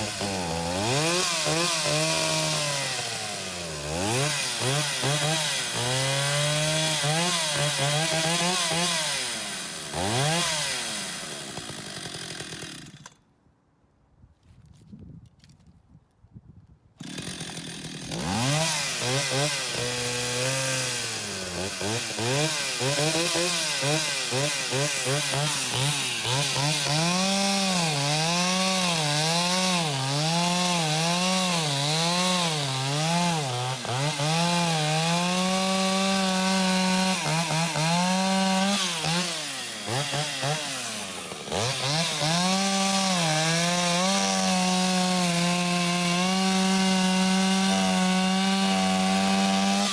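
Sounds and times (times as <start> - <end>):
chainsaw revving: 0.0 - 13.2, 17.0 - 49.9.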